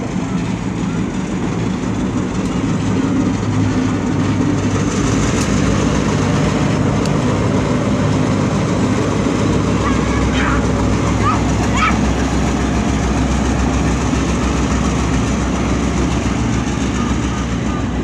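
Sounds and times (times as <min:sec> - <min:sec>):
locomotive diesel engine drone: 0:00.0 - 0:18.0.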